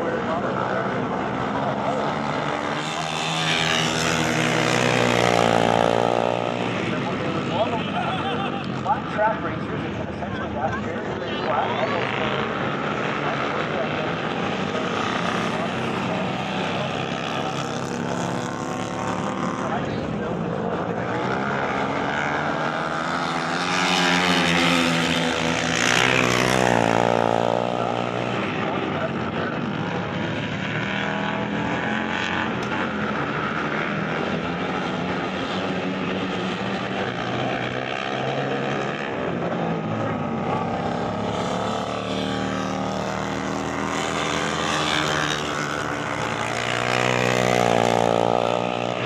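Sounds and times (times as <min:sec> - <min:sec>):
racing motorcycle engines buzzing: 0:00.0 - 0:49.0.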